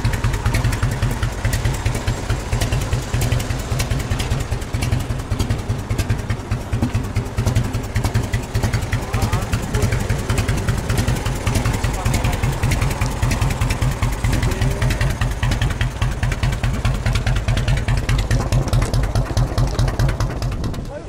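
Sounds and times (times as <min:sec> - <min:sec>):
motorcycle idling: 0:00.0 - 0:21.0.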